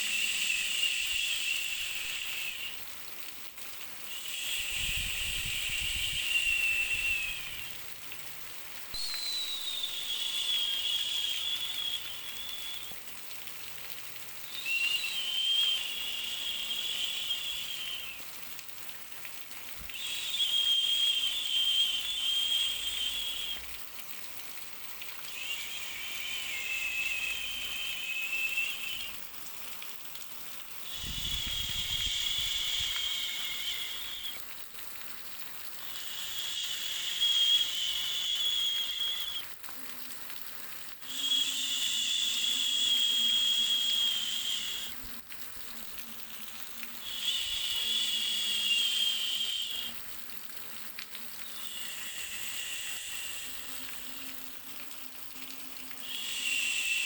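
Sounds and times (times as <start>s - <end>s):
hissing with wavering whistle: 0.0s - 3.3s, 4.0s - 8.0s, 8.8s - 18.7s, 19.4s - 30.0s, 30.6s - 57.0s.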